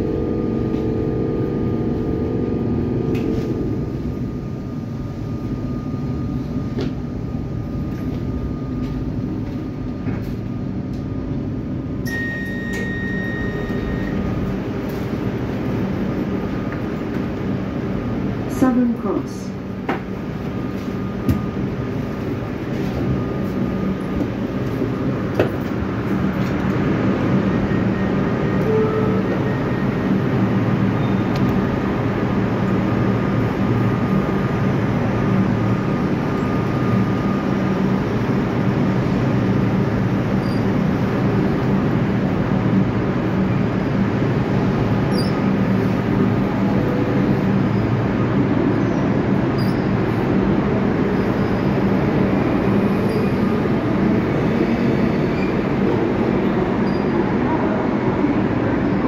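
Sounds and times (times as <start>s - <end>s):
electric train humming: 0.0s - 59.0s.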